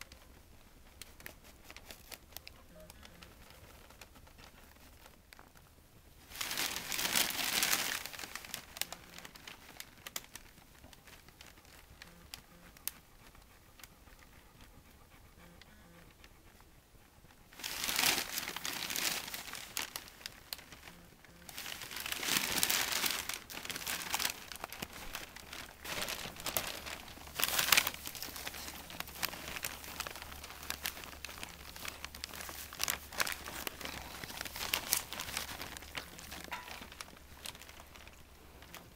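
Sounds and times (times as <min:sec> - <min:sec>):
plastic sheeting crinkling: 0:00.0 - 0:13.4, 0:17.5 - 0:38.9.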